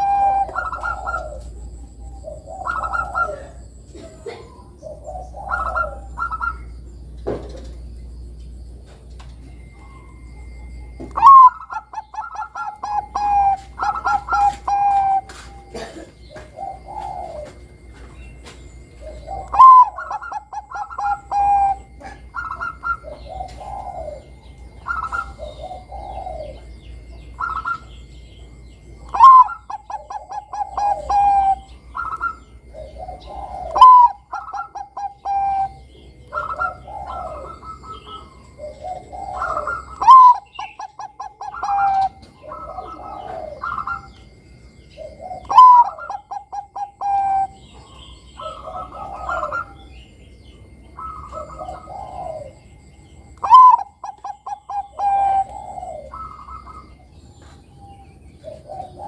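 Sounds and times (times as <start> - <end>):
dove cooing song: 0.0 - 59.0.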